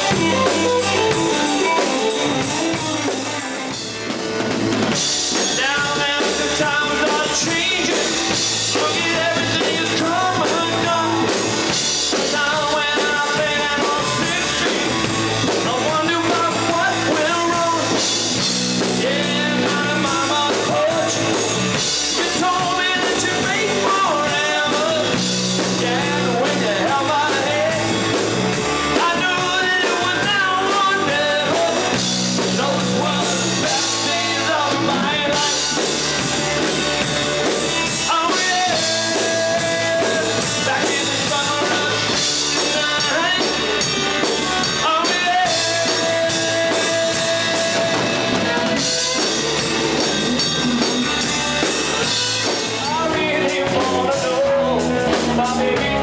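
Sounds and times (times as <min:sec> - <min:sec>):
man singing: 0:00.0 - 0:03.8, 0:05.0 - 0:56.0
rock band playing: 0:00.0 - 0:56.0.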